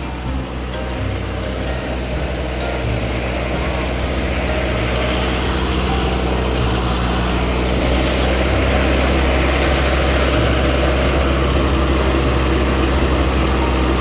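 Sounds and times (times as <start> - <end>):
engine drone: 0.0 - 14.0.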